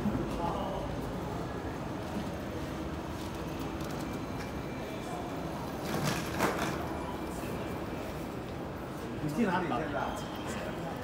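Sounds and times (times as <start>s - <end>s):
airport terminal background noise: 0.0s - 11.0s.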